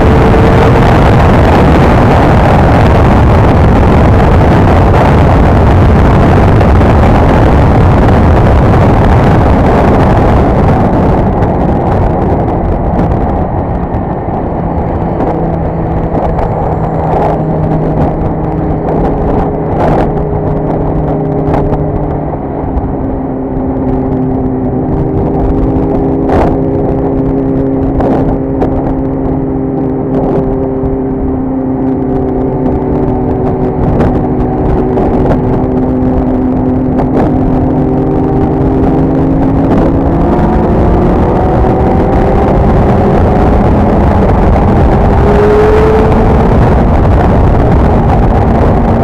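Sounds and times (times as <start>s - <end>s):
motorcycle engine cruising: 0.0s - 49.0s
wind and road noise: 0.0s - 49.0s.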